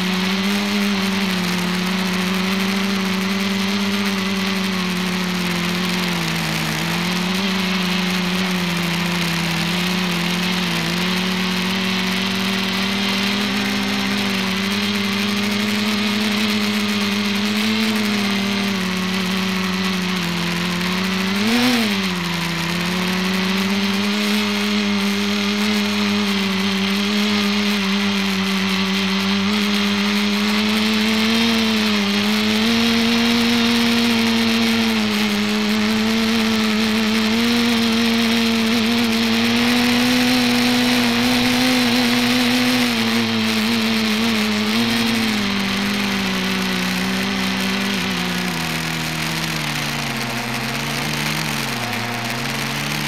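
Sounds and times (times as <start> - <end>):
multicopter propellers droning: 0.0 - 53.0.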